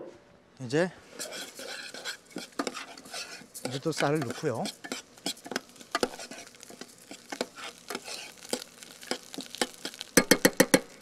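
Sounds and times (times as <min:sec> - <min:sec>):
light sizzle: 0:00.6 - 0:11.0
spoon scraping saucepan: 0:01.2 - 0:10.5.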